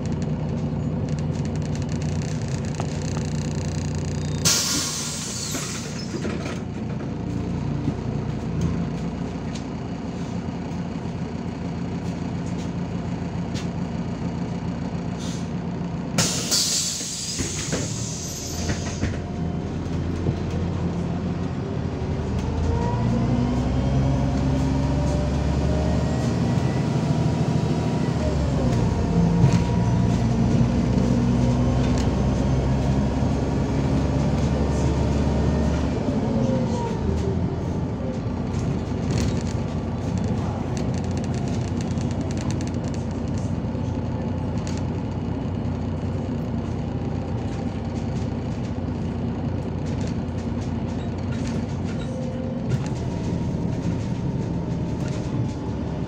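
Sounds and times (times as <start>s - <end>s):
bus diesel engine droning: 0.0s - 56.0s
road and cabin rumble: 0.0s - 56.0s.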